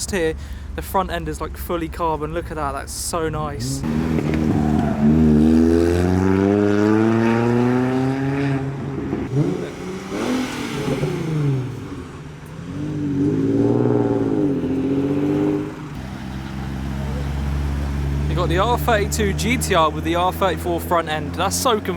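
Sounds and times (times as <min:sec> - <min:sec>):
car engine revving: 0:03.2 - 0:21.9.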